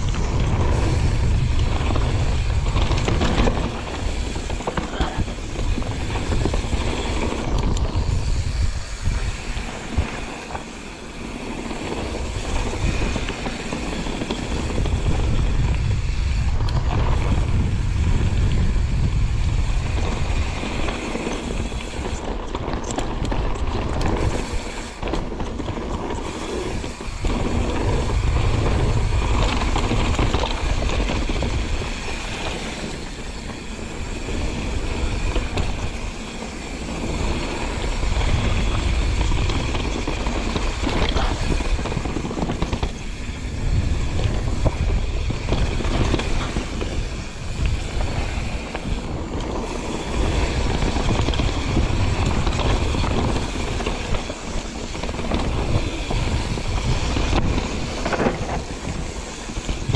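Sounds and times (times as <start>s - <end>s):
tyres rolling on trail: 0.0s - 59.9s
wind buffeting microphone: 0.0s - 59.9s.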